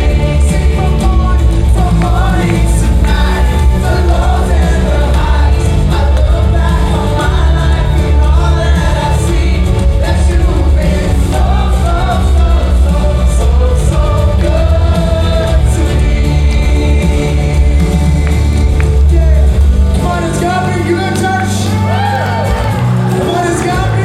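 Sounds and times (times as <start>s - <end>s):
full band playing: 0.0s - 24.0s
heavy bass: 0.0s - 24.0s
worship singing: 0.0s - 24.0s.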